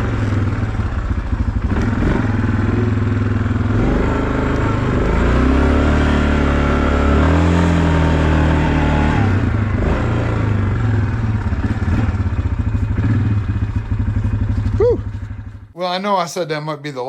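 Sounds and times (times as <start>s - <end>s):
off-road vehicle engine revving: 0.0s - 15.7s.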